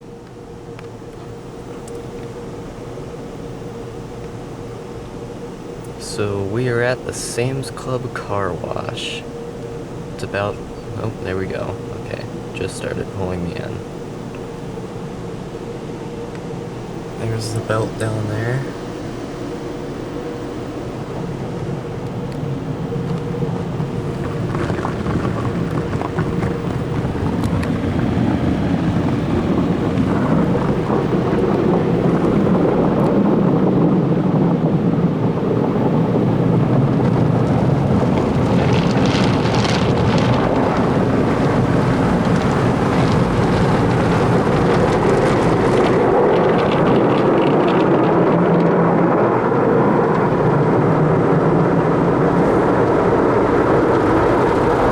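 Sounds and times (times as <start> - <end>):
car wash water spray: 0.0 - 54.9.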